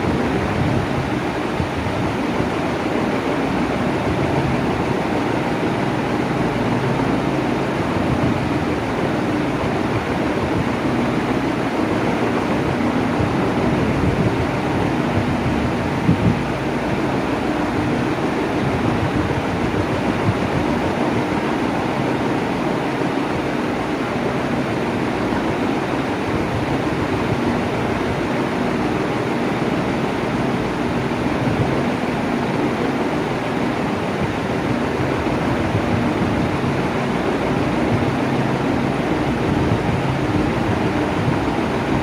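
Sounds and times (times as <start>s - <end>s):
electric fan running: 0.0s - 42.0s.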